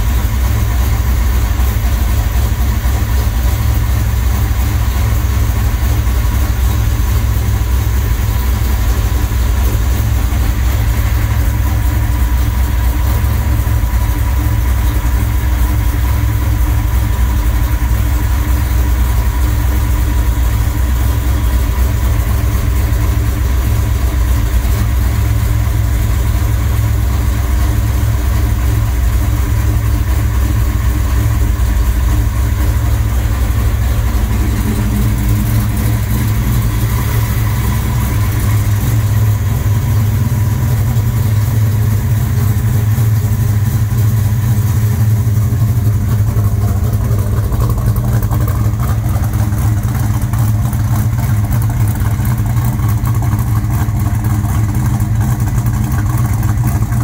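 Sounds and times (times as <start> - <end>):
car engine idling rumble: 0.0 - 57.0.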